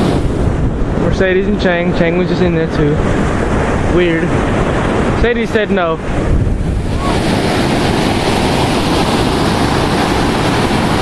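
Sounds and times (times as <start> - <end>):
ocean surf washing up beach: 0.0 - 11.0
wind buffeting microphone: 0.0 - 11.0.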